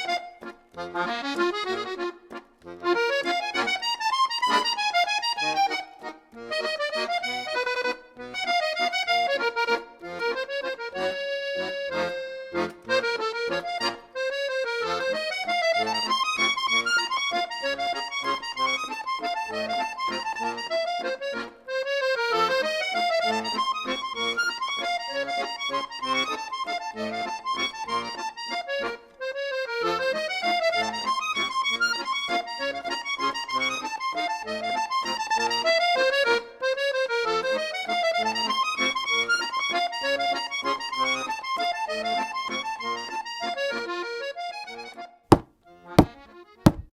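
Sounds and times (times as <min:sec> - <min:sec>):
instrumental music: 0:00.0 - 0:46.9.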